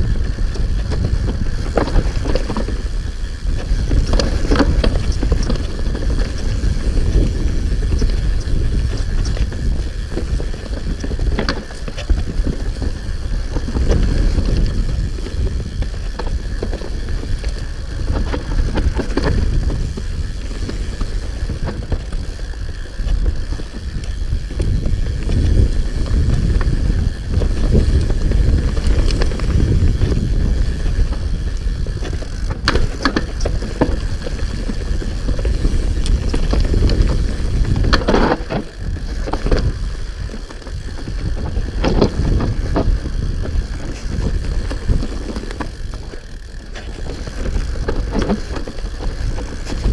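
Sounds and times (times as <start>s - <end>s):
wind on microphone: 0.0s - 46.2s, 46.9s - 49.9s
bike rattling and knocking: 0.0s - 49.9s
bike tyres rumbling on ground: 0.0s - 49.9s.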